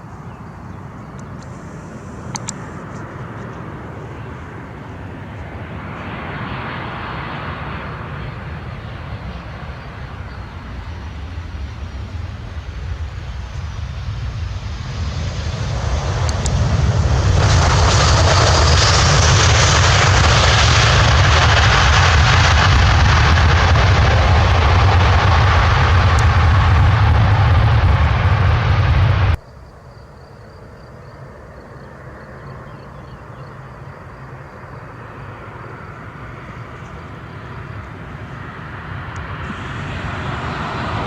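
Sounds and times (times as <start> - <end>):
airplane engines roaring: 0.0 - 41.0.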